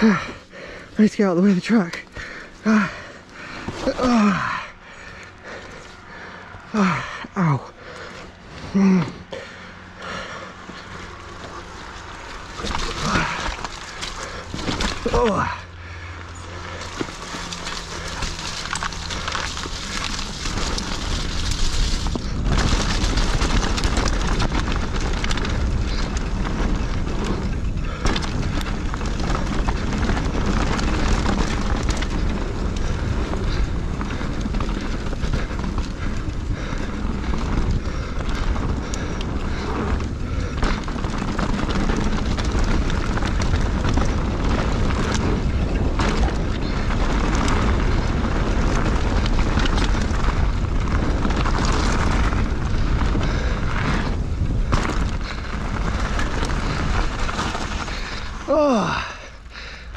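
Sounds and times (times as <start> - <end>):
tyres crunching on gravel: 0.0 - 59.9
wind buffeting microphone: 11.0 - 59.9.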